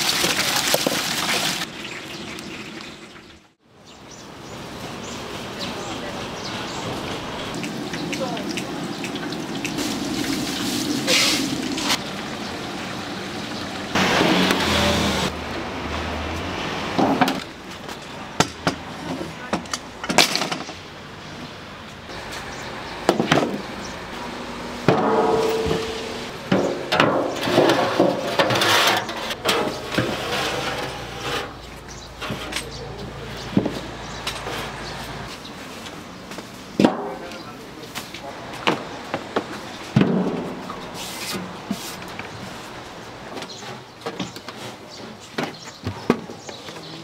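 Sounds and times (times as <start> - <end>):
steady background noise: 3.7 - 47.0.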